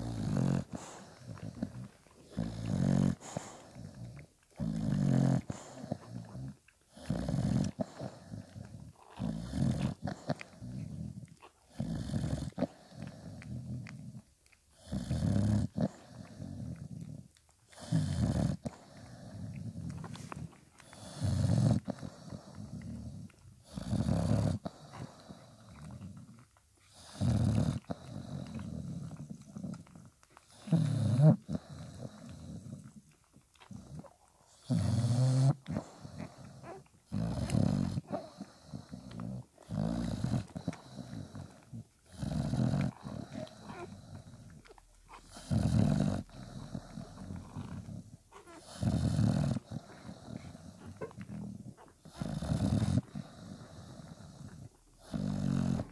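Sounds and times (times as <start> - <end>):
dog snoring: 0.0 - 55.9.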